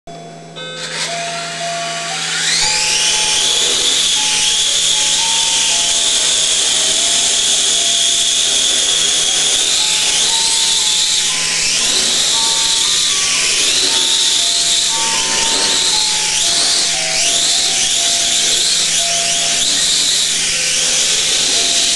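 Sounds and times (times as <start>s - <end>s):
simple tune: 0.1s - 21.9s
quadcopter propellers whining: 0.6s - 21.9s.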